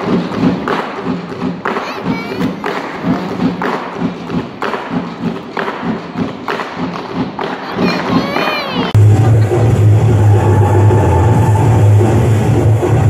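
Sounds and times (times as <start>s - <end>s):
show music with heavy percussive beat: 0.0s - 13.0s.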